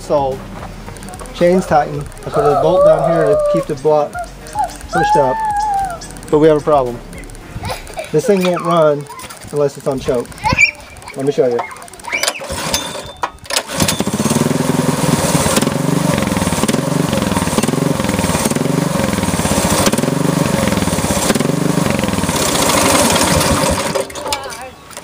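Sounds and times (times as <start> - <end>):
small engine surging: 1.9 - 24.2.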